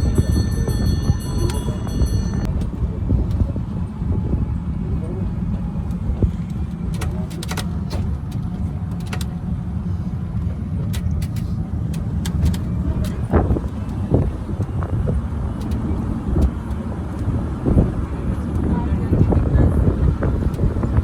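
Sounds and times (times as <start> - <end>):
motor vehicle rumbling: 0.0 - 21.0.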